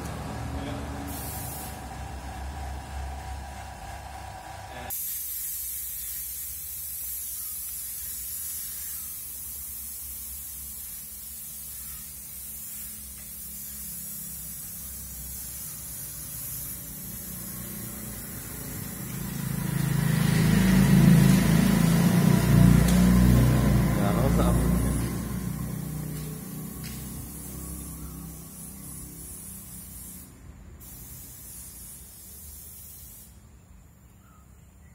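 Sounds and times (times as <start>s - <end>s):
paint spray gun hissing: 1.0s - 2.9s, 4.8s - 33.5s.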